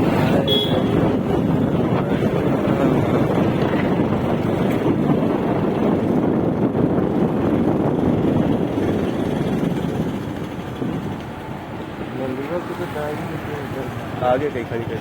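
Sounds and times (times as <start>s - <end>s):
vehicle running: 0.0s - 15.0s
wind rushing over microphone: 0.0s - 15.0s.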